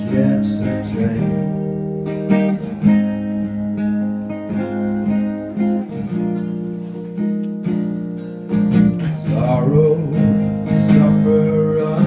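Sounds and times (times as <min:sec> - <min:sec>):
guitar chords ringing: 0:00.0 - 0:12.0.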